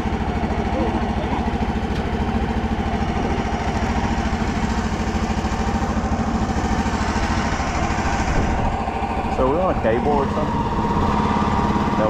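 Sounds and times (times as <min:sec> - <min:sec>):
petrol engine throbbing: 0:00.0 - 0:12.0.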